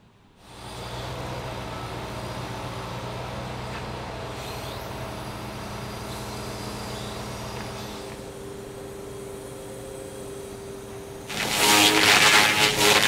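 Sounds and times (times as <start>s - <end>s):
truck engine and hydraulic crane hum: 0.0s - 11.4s.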